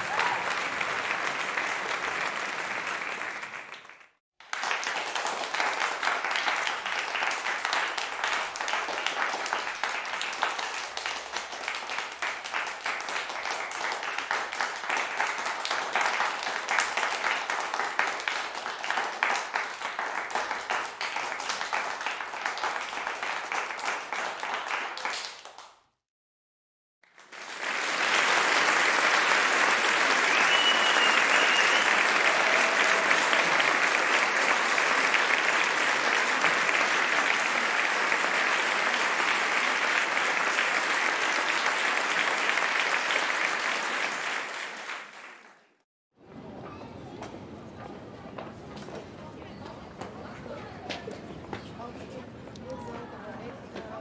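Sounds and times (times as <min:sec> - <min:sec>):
audience applauding and cheering: 0:00.0 - 0:25.6, 0:27.1 - 0:45.8.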